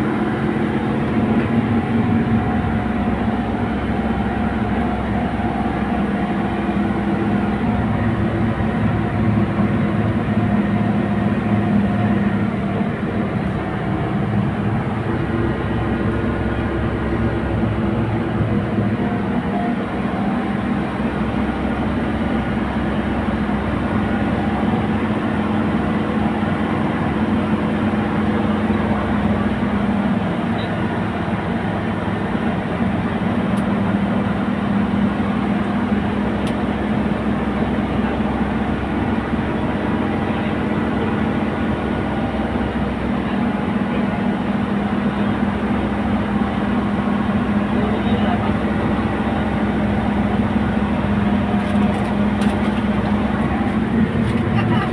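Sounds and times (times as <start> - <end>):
bus engine and road drone: 0.0 - 54.9.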